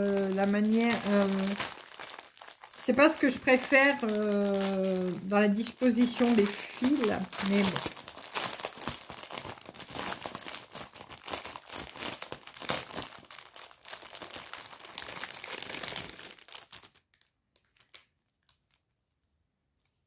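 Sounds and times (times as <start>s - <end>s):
plastic packaging crinkling: 0.0s - 18.8s.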